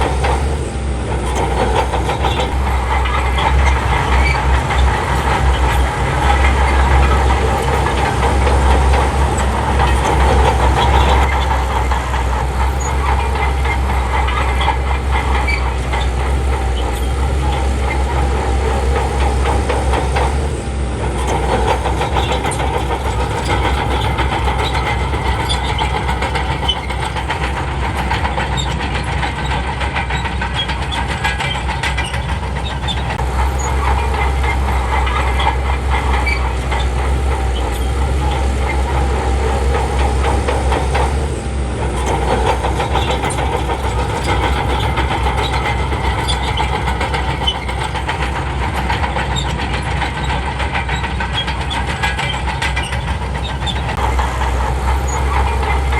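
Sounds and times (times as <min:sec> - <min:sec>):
bulldozer diesel engine rumble: 0:00.0 - 0:55.9
steel tracks clattering: 0:00.0 - 0:55.9.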